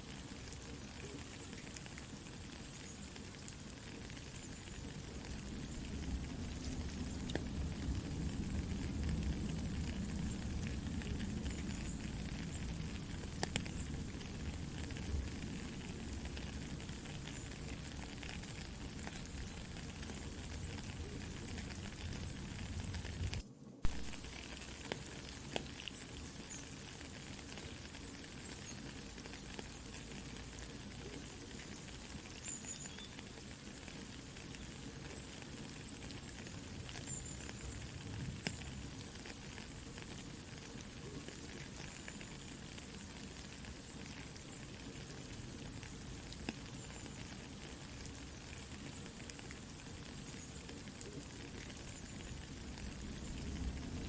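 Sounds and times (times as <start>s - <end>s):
campfire crackling: 0.0s - 54.0s
soft rain pattering: 0.0s - 54.0s.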